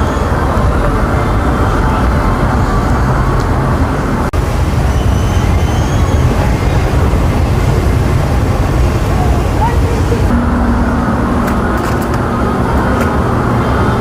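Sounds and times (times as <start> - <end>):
loud outdoor rumbling: 0.0 - 14.0.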